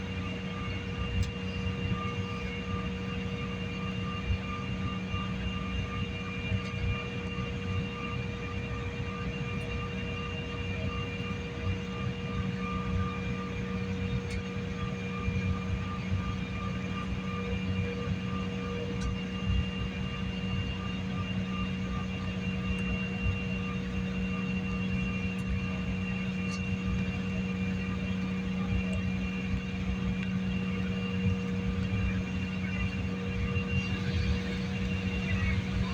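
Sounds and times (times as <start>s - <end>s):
airliner engines droning in cabin: 0.0s - 35.9s.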